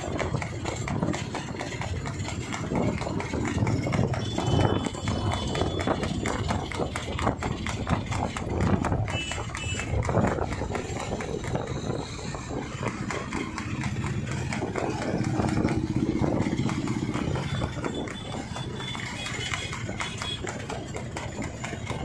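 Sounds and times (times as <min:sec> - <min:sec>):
hooves clip-clopping on asphalt: 0:00.0 - 0:22.0
motorcycle engine running: 0:00.0 - 0:22.0.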